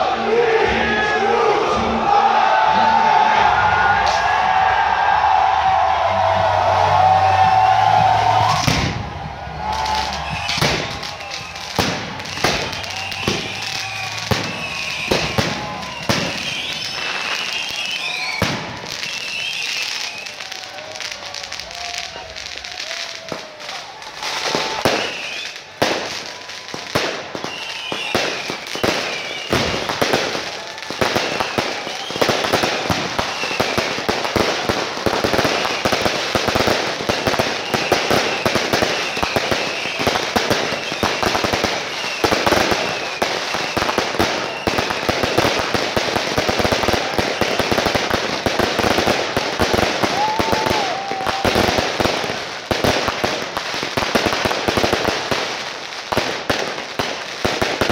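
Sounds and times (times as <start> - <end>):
fireworks bangs and crackles: 2.5 - 57.9
whistling fireworks: 3.3 - 57.9.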